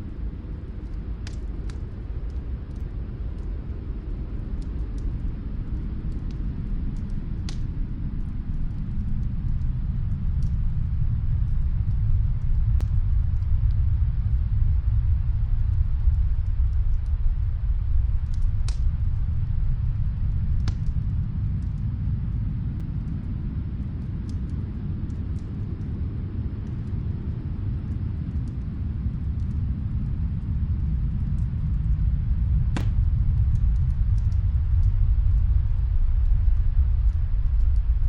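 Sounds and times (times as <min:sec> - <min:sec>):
snowstorm wind rumbling: 0:00.0 - 0:38.0
wood fire crackling and popping: 0:00.0 - 0:38.0.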